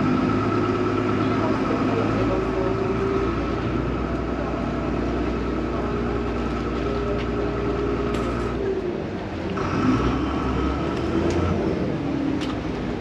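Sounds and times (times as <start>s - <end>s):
boat diesel engine rumbling: 0.0s - 13.0s
steady engine whine: 0.0s - 13.0s.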